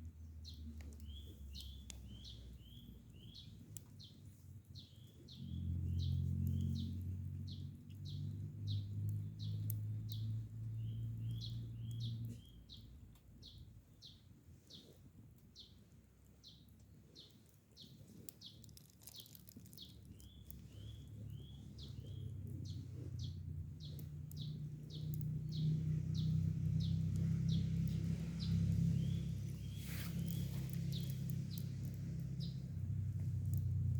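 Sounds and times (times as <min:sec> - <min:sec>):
low steady hum: 0:00.0 - 0:33.9
bird chirping: 0:00.4 - 0:15.0, 0:16.4 - 0:33.9.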